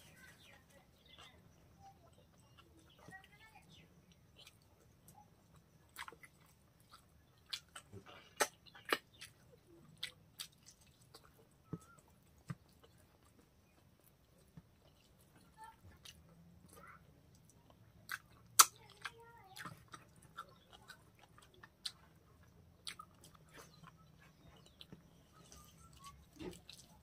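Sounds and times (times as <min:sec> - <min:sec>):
wet chewing and lip smacks: 0:04.0 - 0:27.0.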